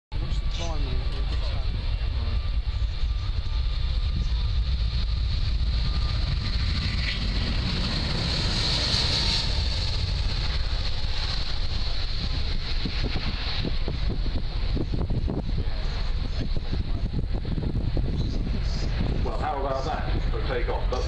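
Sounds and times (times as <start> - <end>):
jet engines with high whine: 0.1 - 21.0
wind buffeting microphone: 0.2 - 21.0.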